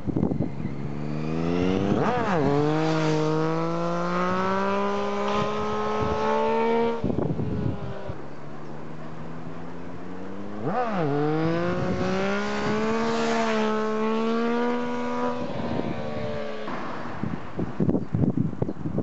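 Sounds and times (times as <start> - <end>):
motorcycle engine revving: 0.3 - 17.8.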